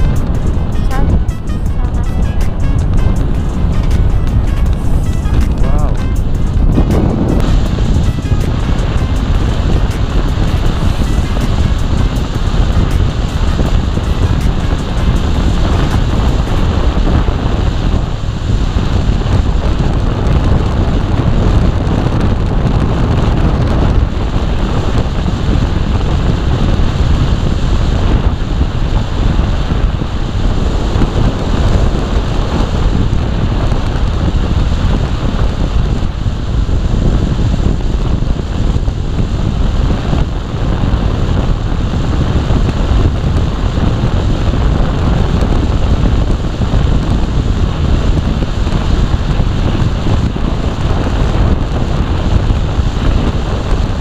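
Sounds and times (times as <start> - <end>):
motorcycle ride rush: 0.0 - 54.0
wind buffeting the microphone: 0.0 - 54.0.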